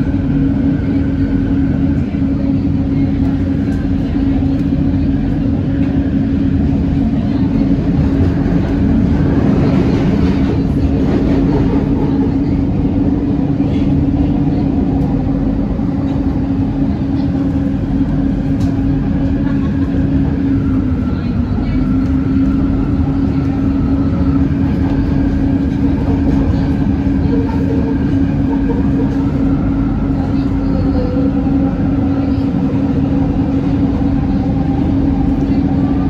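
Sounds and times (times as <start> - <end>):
train running with low hum: 0.0 - 36.0.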